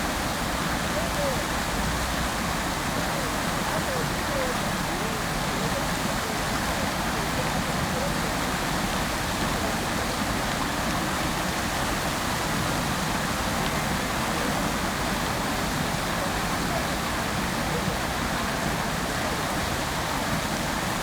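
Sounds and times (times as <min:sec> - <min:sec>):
fountain water splashing: 0:00.0 - 0:21.0.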